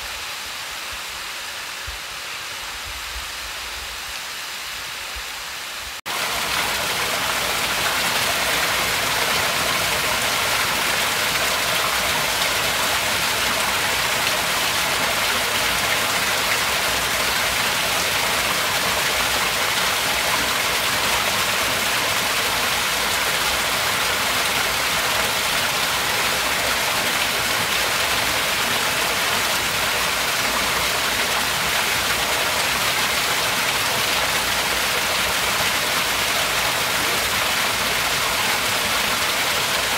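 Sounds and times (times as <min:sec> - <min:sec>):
waterfall splashing: 0:03.7 - 0:39.9.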